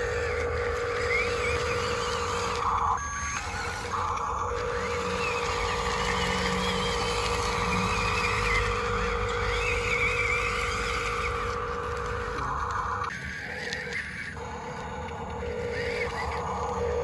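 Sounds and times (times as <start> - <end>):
model vehicle motor whine: 0.0 - 17.0.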